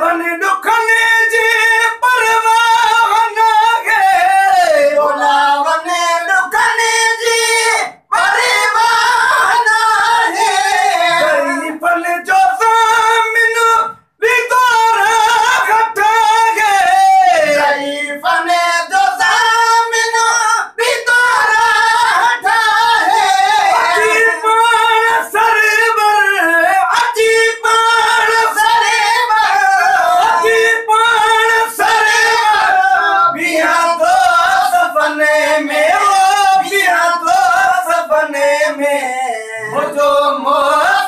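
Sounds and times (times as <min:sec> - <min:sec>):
men singing together: 0:00.0 - 0:41.0.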